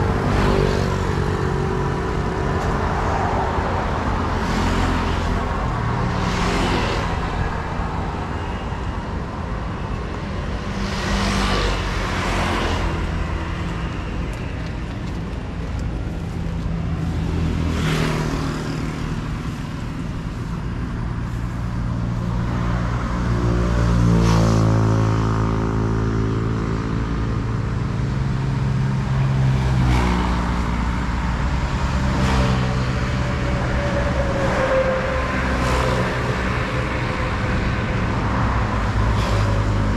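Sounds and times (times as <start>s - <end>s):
low traffic rumble: 0.0s - 39.9s
truck engines passing: 0.0s - 39.9s
vehicles rushing past: 0.0s - 39.9s.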